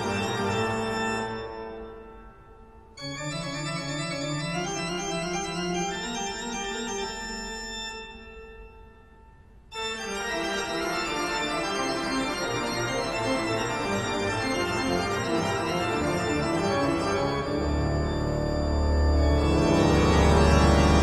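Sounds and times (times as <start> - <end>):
organ music: 0.0 - 21.0.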